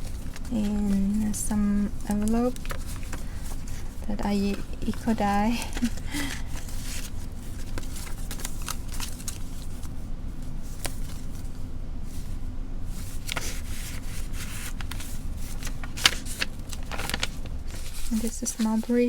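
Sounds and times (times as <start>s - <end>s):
paper rustling: 0.0s - 19.0s
steady low hum: 0.0s - 19.0s.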